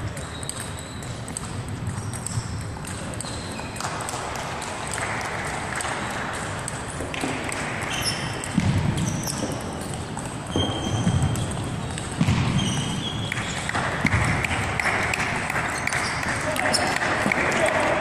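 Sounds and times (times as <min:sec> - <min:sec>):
table tennis balls clicking: 0:00.0 - 0:18.0.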